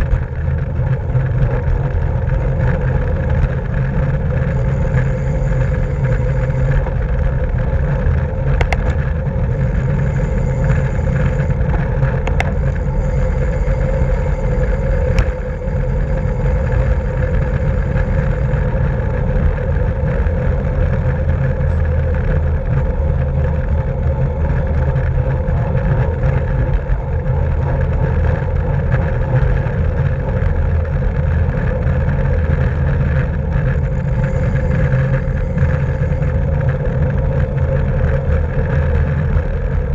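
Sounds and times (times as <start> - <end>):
road rumble: 0.0 - 39.9
wind rush: 0.0 - 39.9.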